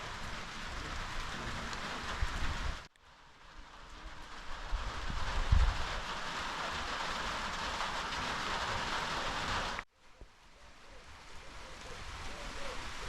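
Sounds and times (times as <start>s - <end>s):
light rain hissing: 0.0s - 13.0s
quiet outdoor ambience: 0.0s - 13.0s.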